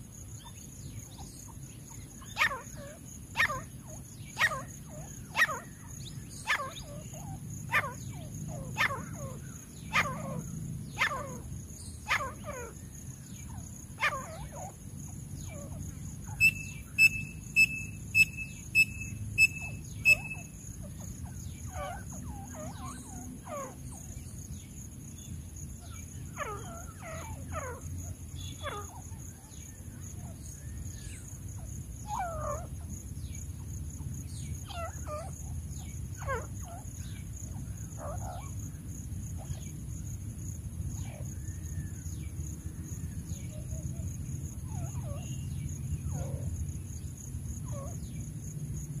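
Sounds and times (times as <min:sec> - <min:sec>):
francolins calling: 0:00.0 - 0:39.8, 0:40.9 - 0:48.3.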